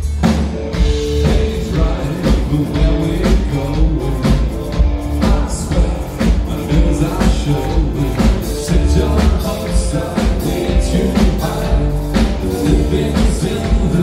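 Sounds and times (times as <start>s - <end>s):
drum kit: 0.0s - 14.0s
electric guitar: 0.0s - 14.0s
keyboards: 0.0s - 14.0s
man singing: 0.8s - 14.0s.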